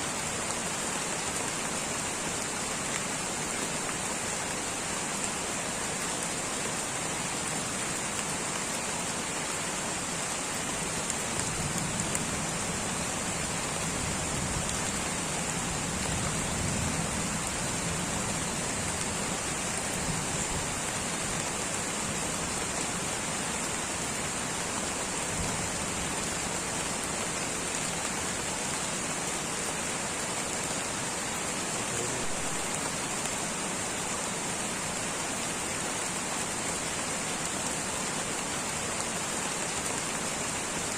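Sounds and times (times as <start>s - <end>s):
light rain on foliage: 0.0s - 40.9s.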